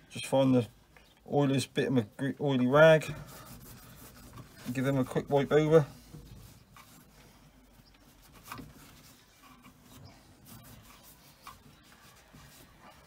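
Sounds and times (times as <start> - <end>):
cloth rubbing on metal fittings: 2.2 - 13.0.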